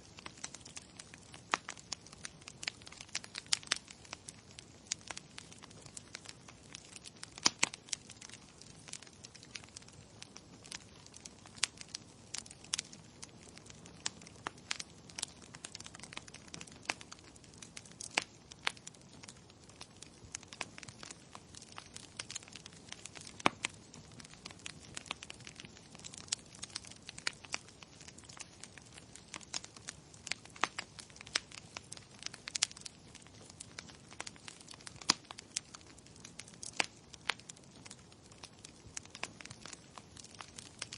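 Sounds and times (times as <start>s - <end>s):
faint steady hiss: 0.0s - 40.9s
wood fire crackling: 0.0s - 40.9s.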